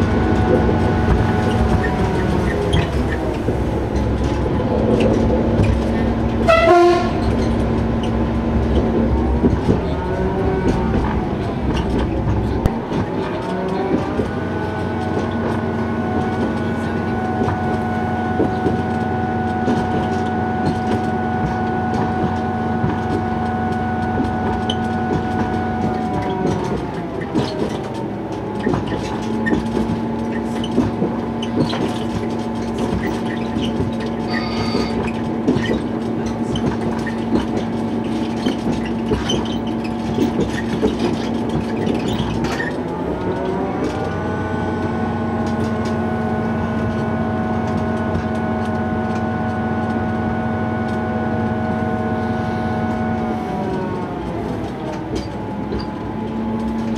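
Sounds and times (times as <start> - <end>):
diesel railcar engine: 0.0 - 56.9
wheels clicking over rails: 0.0 - 56.9.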